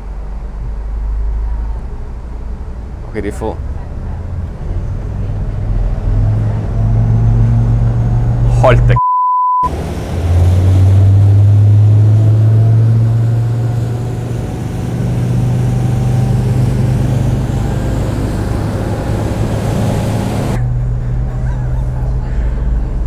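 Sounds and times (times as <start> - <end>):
diesel engines droning: 0.0 - 9.0, 9.6 - 23.0.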